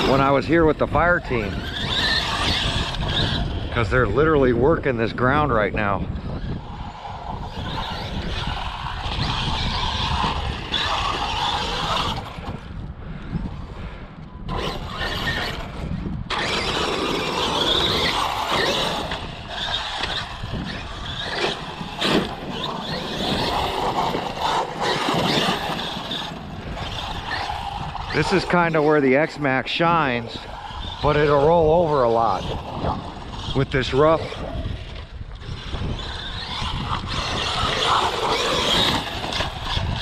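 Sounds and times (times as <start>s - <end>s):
rc truck drivetrain noise: 0.0s - 40.0s
tires on gravel: 0.0s - 40.0s.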